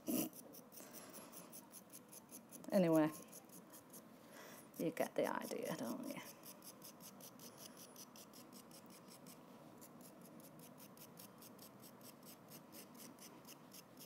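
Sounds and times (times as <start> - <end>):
tool scratching soft clay: 0.1 - 14.0.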